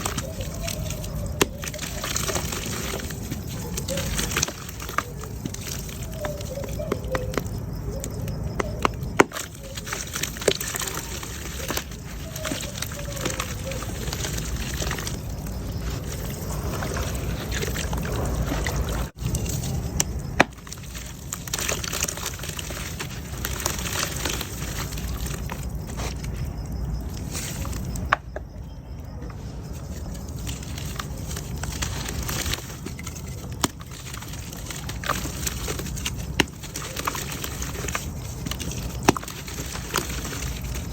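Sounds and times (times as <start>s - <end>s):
mud crackling and popping: 0.0s - 28.6s, 29.2s - 40.9s
water sloshing and trickling: 0.0s - 40.9s.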